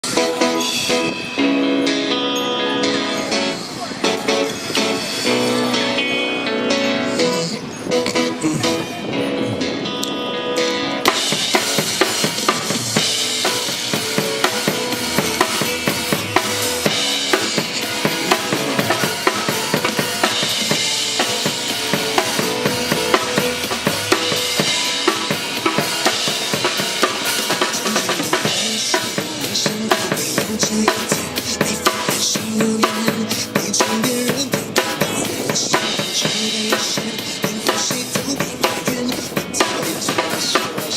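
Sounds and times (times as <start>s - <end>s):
live band music: 0.0s - 40.9s.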